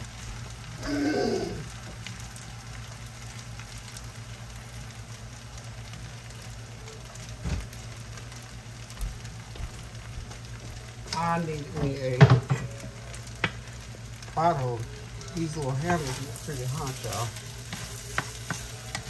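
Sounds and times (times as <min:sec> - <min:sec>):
constant low hum: 0:00.0 - 0:19.0
rice sizzling in a pan: 0:00.0 - 0:19.0.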